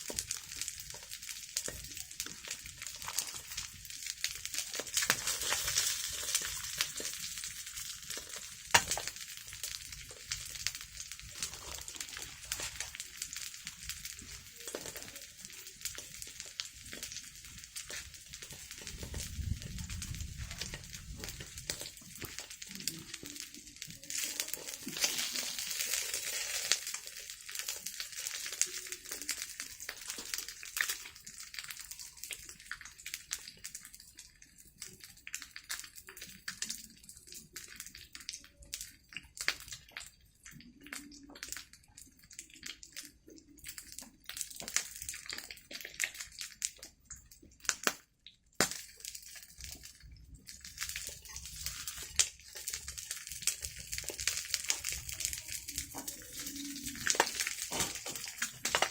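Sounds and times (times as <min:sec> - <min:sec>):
wood fire crackling and hissing: 0:00.0 - 0:58.9.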